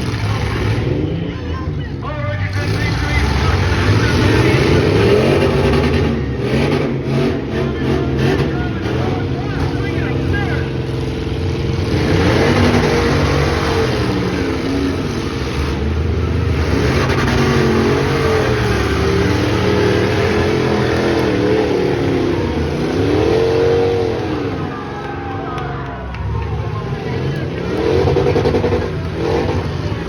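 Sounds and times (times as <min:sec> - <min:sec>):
truck engines revving: 0:00.0 - 0:30.0.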